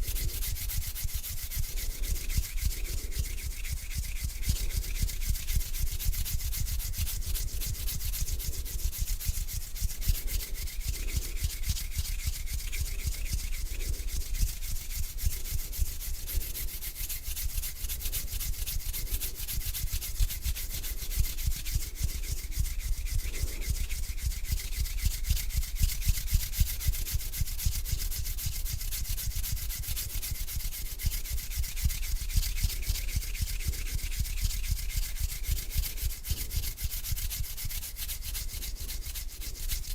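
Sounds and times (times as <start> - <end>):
hands rubbing together: 0.0 - 39.9.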